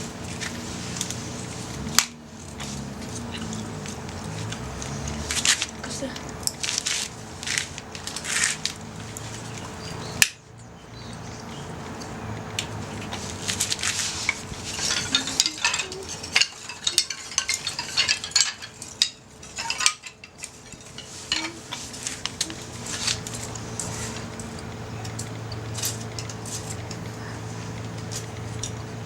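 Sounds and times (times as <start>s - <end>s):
utensils clinking on metal grill: 0.2s - 10.4s, 11.0s - 29.0s.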